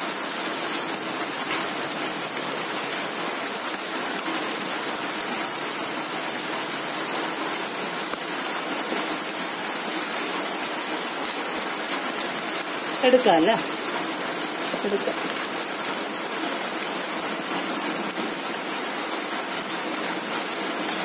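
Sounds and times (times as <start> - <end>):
wood fire hissing and crackling: 0.0 - 21.0.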